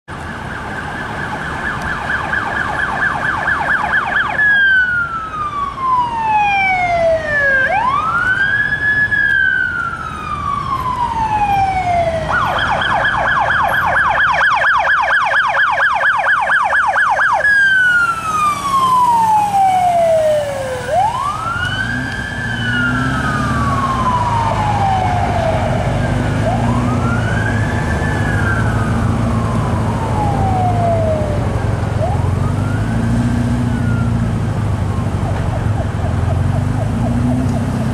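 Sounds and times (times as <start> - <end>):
siren yelping and wailing: 0.3 - 37.9
low vehicle engine rumble: 4.6 - 37.9.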